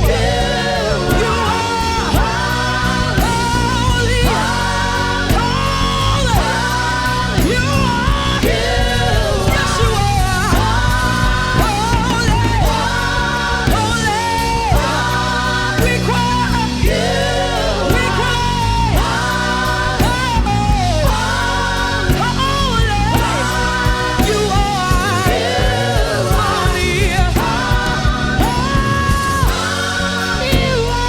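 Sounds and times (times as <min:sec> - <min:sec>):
person singing: 0:00.0 - 0:31.0
worship band playing: 0:00.0 - 0:31.0.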